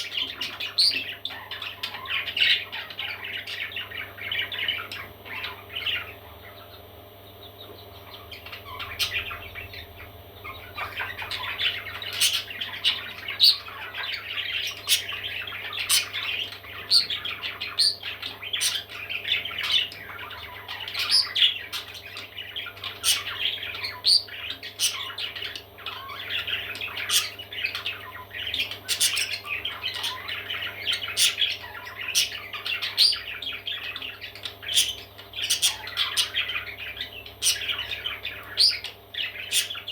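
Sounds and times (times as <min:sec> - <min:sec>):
parrot chicks squawking: 0:00.0 - 0:39.9.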